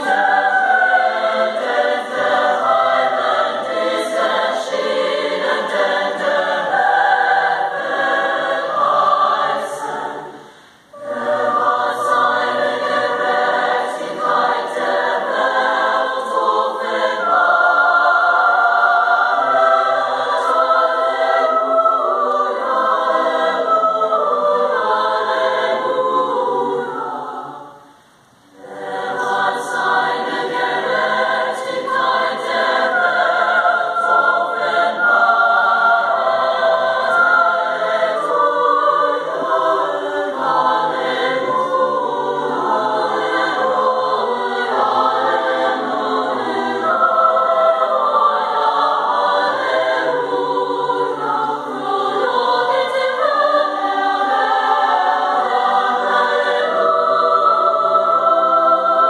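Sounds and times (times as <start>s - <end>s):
choir singing in parts: 0.0s - 59.0s.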